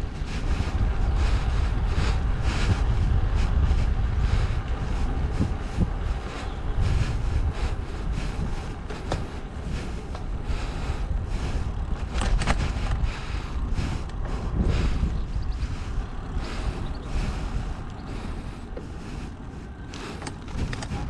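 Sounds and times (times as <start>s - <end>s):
low rumble of bicycle riding: 0.0s - 21.0s
wind buffeting microphone: 0.0s - 21.0s.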